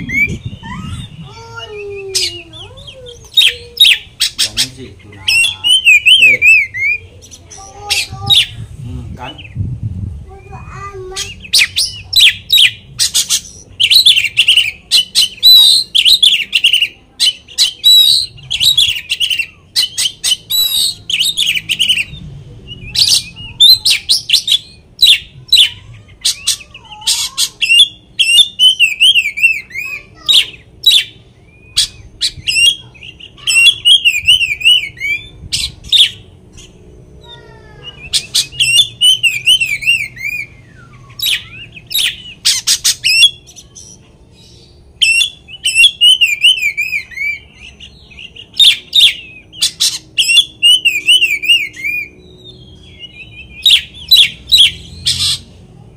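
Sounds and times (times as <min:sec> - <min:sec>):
bird singing varied song: 0:00.0 - 0:55.9.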